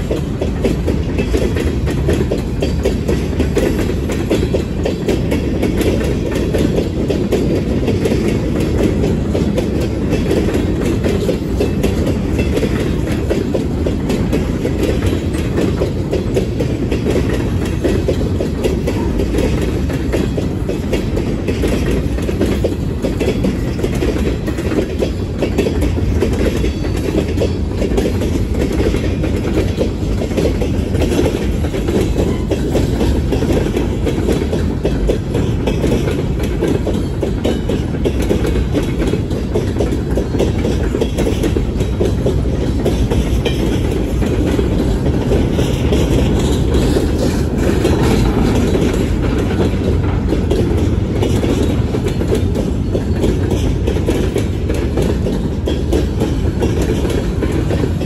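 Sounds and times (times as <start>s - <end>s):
clicks over rail joints: 0.0s - 58.0s
steel wheels rumbling on rail: 0.0s - 58.0s.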